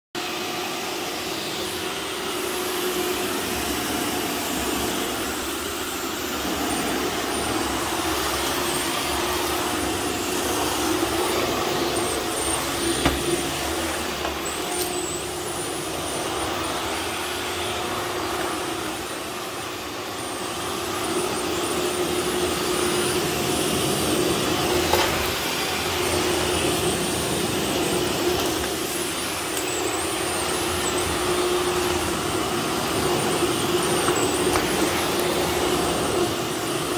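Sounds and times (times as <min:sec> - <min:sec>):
stick vacuum running: 0:00.2 - 0:36.9.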